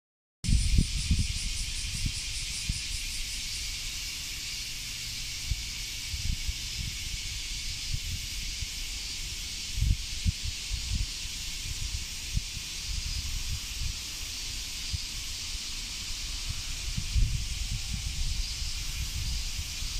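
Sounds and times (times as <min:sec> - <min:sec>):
cicadas chorus hissing: 0:00.4 - 0:19.9
fast pulsing insect call: 0:00.5 - 0:19.9.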